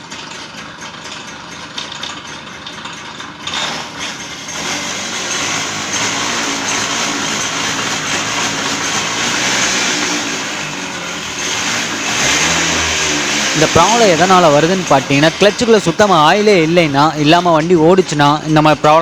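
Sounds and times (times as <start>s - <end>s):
moped engine running: 0.0s - 19.0s.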